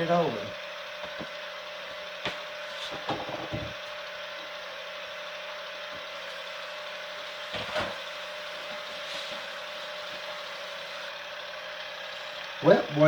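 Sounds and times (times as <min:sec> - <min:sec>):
ice cream maker whirring: 0:00.0 - 0:13.0.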